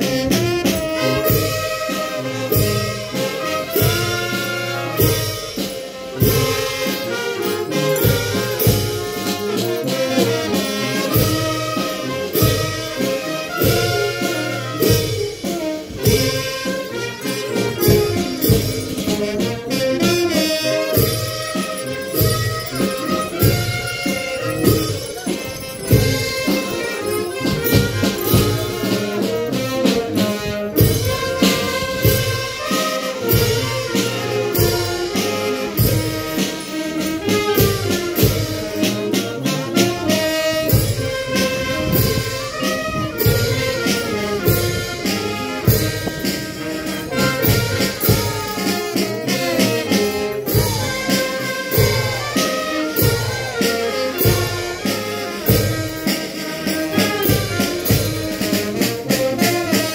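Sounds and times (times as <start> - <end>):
brass and saxophone band music: 0.0 - 59.9
percussion beat: 0.0 - 59.9.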